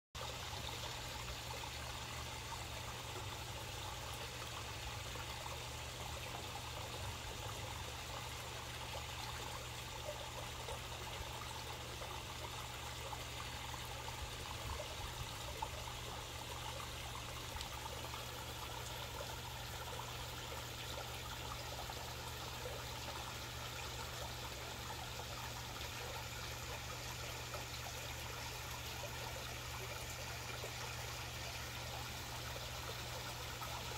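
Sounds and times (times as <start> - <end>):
waterfall splashing into pond: 0.2 - 33.9.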